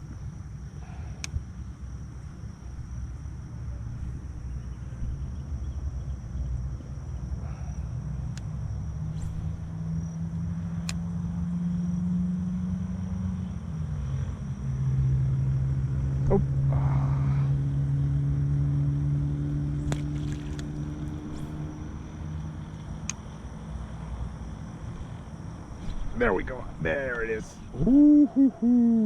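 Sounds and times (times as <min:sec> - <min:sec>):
motor engine droning: 0:03.5 - 0:29.0.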